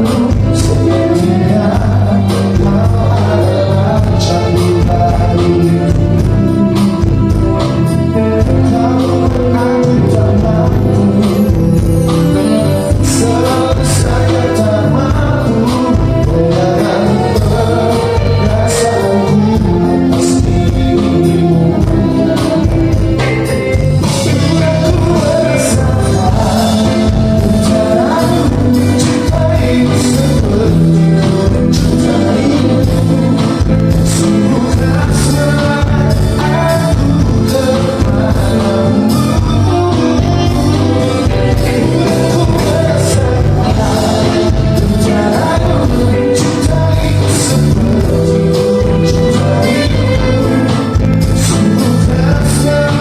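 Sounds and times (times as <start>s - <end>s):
live band playing: 0.0s - 53.0s
person singing: 0.0s - 53.0s
steady drum beat: 0.0s - 53.0s.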